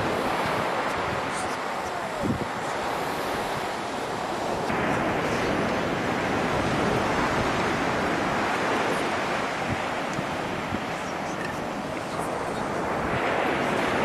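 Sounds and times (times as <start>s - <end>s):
ocean surf on beach: 0.0s - 14.0s.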